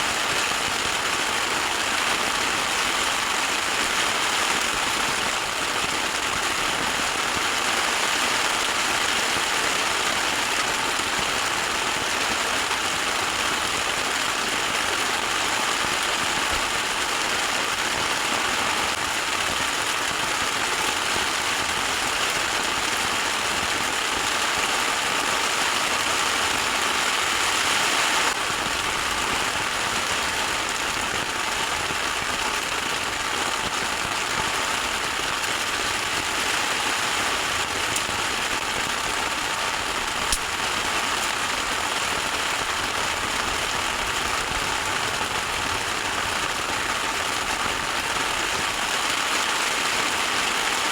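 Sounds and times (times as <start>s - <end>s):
heavy rain drumming on a tent: 0.0s - 50.9s.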